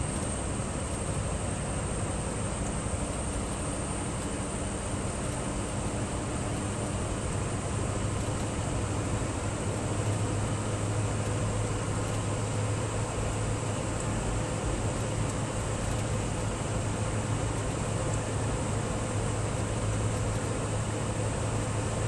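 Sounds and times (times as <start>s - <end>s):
diesel engine droning in cab: 0.0s - 22.0s
tyre road noise on snow: 0.0s - 22.0s.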